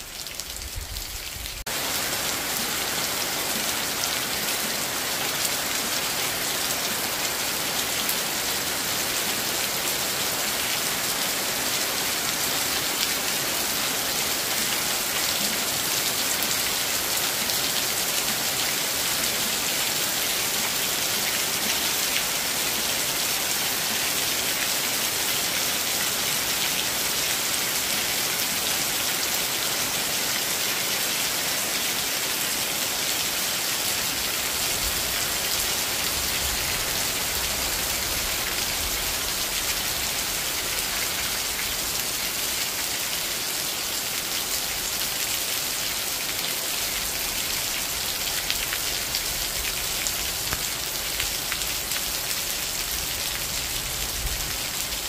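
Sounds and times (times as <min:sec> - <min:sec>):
heavy rain on trees and rooftops: 0:00.0 - 0:55.0.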